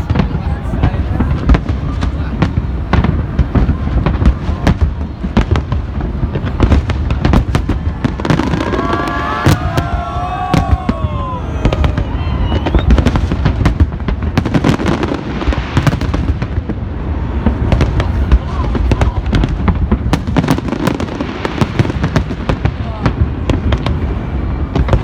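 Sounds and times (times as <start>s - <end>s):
fireworks bangs and crackles: 0.0s - 25.0s
low rumble of explosions: 0.0s - 25.0s.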